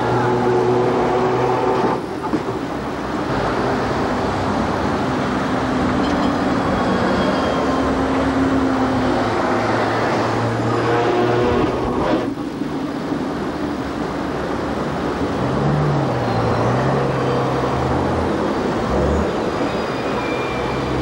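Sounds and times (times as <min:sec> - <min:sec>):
electric trams: 0:00.0 - 0:21.0
vehicle engines passing: 0:00.0 - 0:21.0.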